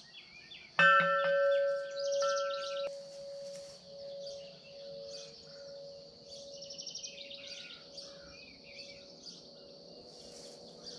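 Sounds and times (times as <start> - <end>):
bird trill: 0.0 - 10.9
songbirds chirping: 0.0 - 10.9
wind chime tubes ringing: 0.8 - 9.8.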